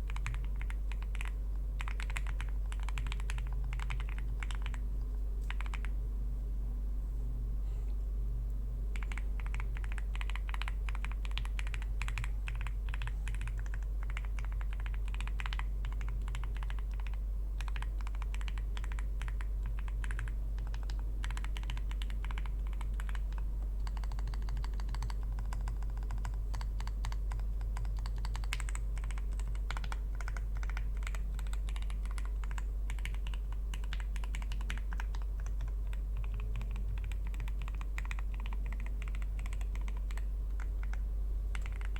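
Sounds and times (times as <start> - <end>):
fast mechanical keyboard typing: 0.0 - 4.8, 5.4 - 5.9, 8.9 - 41.9
steady low hum: 0.0 - 41.9.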